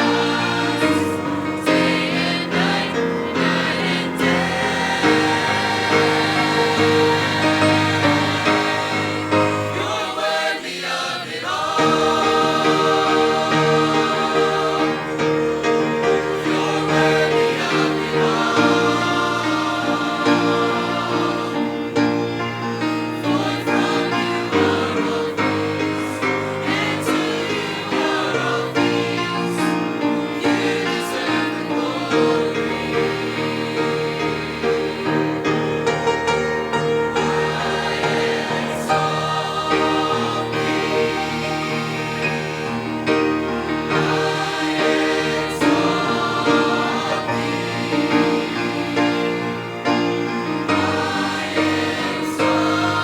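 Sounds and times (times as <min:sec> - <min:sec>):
choir singing in harmony: 0:00.0 - 0:53.0.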